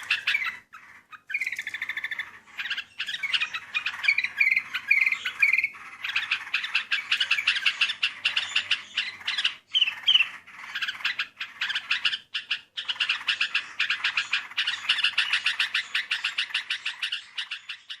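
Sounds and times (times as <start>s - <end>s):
bird chattering call: 0.0s - 18.0s.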